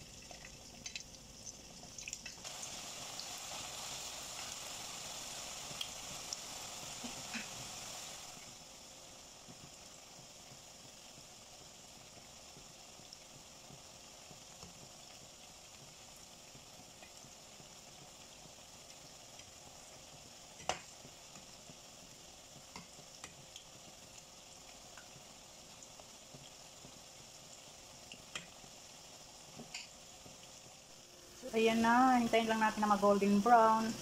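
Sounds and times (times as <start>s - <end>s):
oil sizzling with pops: 0.0s - 34.0s.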